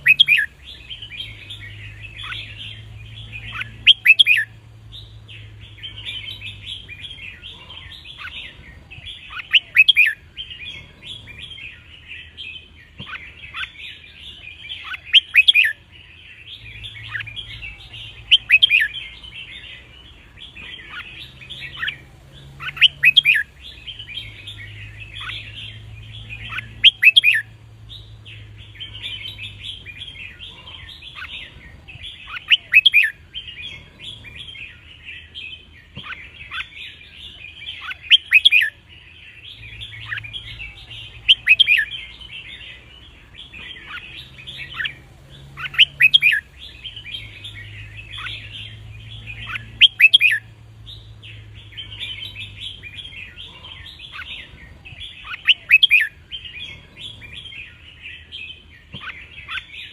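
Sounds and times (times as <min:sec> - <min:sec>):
birds chirping: 0:00.0 - 0:59.9
loud bird song phrase: 0:00.0 - 0:59.9.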